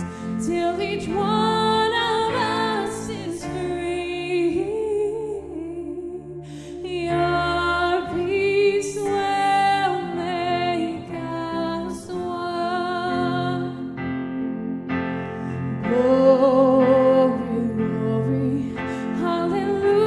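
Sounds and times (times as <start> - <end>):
woman singing: 0.0 - 14.0, 15.7 - 20.0
keyboard: 0.0 - 20.0.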